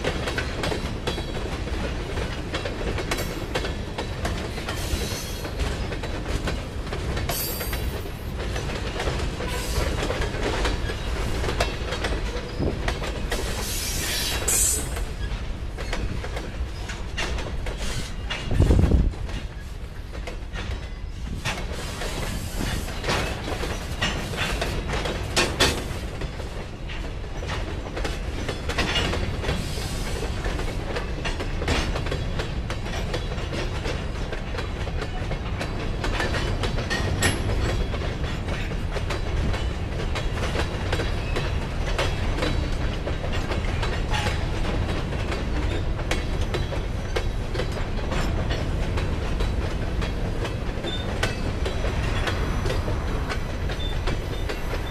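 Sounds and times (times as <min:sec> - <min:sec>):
freight train rumbling: 0:00.0 - 0:54.9
wheels clanking over rail joints: 0:00.0 - 0:54.9.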